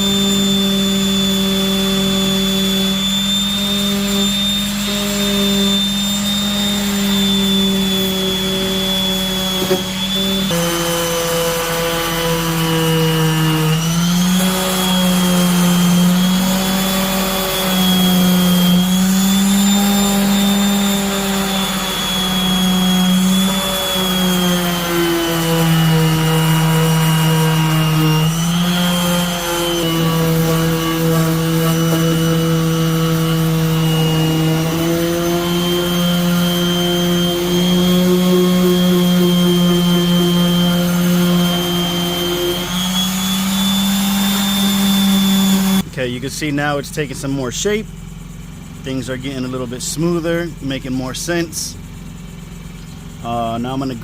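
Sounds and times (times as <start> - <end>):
orbital sander running: 0.0 - 54.0.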